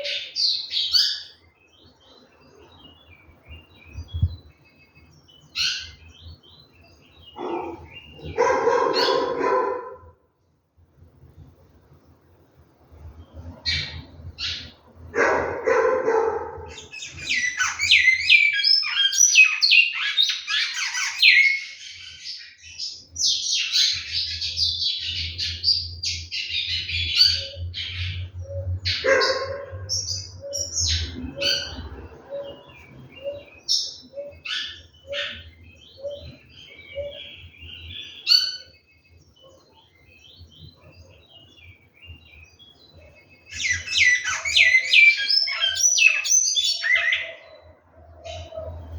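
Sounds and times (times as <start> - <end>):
bird warbling song: 0.0 - 10.0, 13.0 - 48.9.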